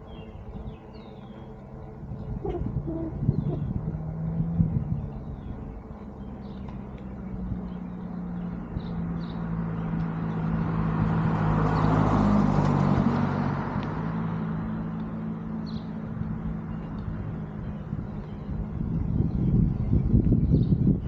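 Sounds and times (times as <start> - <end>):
motor vehicle passing: 0.0 - 21.0.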